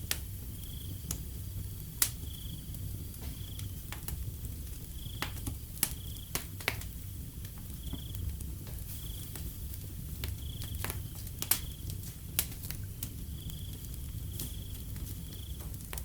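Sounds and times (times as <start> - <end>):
wood fire crackling and popping: 0.0 - 16.0
crickets chirping: 0.1 - 16.0.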